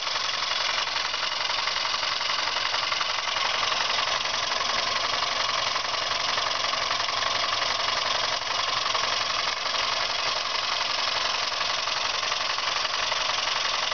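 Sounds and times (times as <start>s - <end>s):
model steam engine running: 0.0s - 13.9s.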